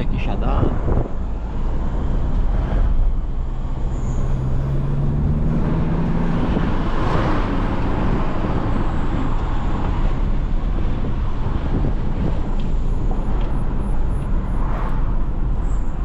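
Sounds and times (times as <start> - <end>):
road rumble: 0.0 - 16.0
car engine from inside cabin: 0.2 - 16.0.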